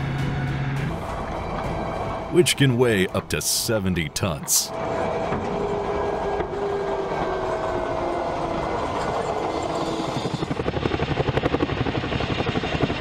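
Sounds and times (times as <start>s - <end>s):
engine whine: 0.0s - 13.0s
helicopter blades beating: 0.9s - 13.0s.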